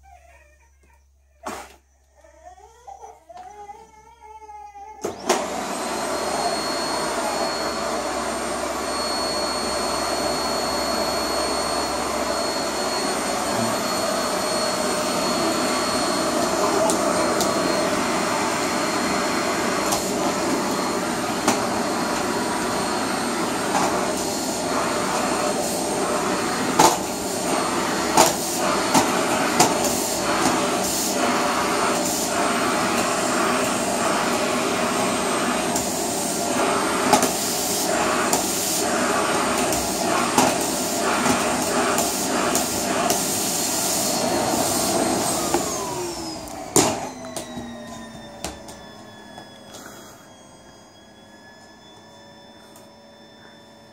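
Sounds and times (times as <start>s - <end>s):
vacuum cleaner running: 5.0s - 53.9s.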